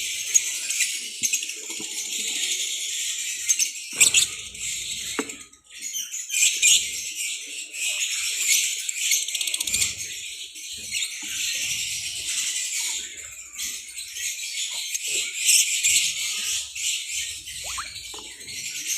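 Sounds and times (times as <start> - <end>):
lovebirds chattering and chirping: 0.0 - 18.9.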